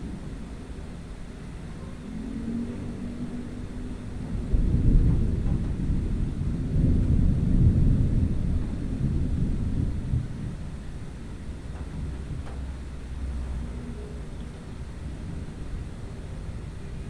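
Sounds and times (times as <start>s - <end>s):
rolling thunder: 2.5s - 17.0s.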